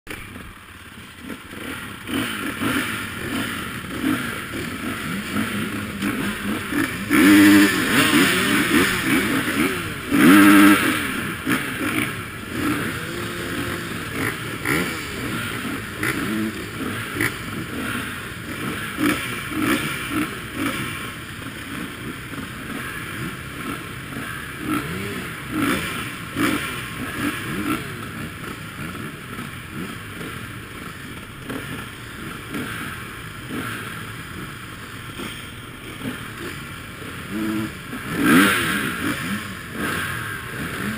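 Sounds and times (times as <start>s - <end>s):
dirt bike engines idling: 0.1s - 40.9s
engine revs: 0.1s - 40.9s.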